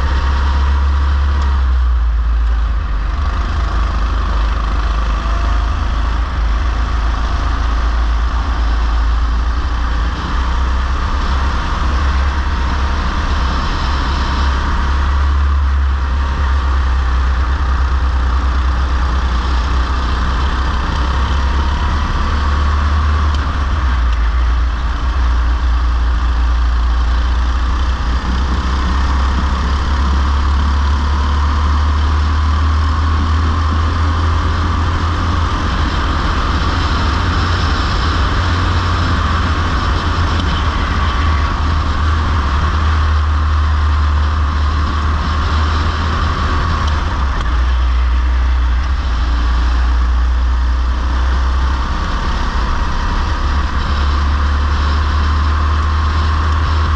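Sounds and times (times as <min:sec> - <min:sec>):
go-kart motor drone: 0:00.0 - 0:56.9.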